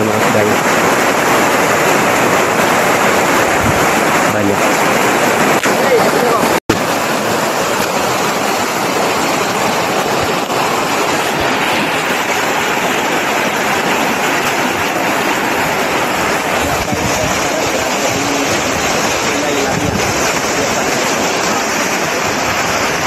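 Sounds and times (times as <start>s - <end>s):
river water rushing over rocks: 0.0s - 23.0s.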